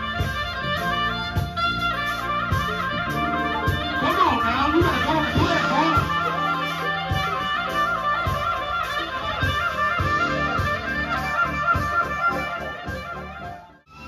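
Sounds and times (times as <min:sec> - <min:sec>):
alto saxophone melody: 0:00.0 - 0:14.0
backing track with bass and beat: 0:00.0 - 0:14.0.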